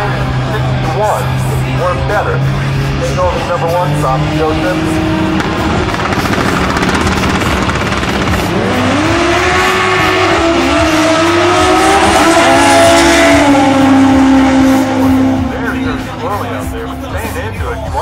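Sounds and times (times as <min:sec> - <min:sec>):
drag cars accelerating hard: 0:00.0 - 0:18.0.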